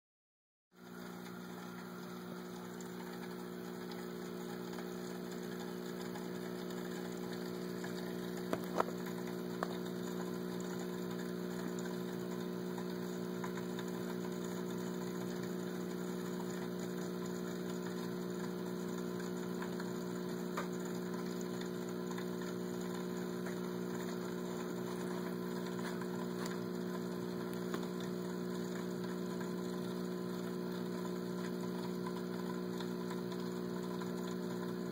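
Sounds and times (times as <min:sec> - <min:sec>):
aquarium air pump humming: 0:00.8 - 0:34.9.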